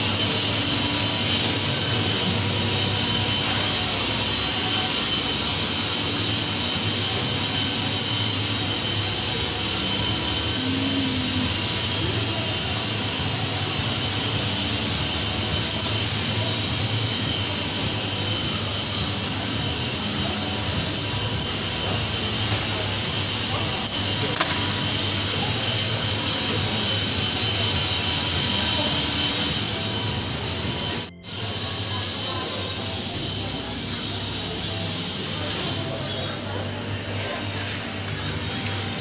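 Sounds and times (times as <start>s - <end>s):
refrigerated cases hissing: 0.0s - 39.0s.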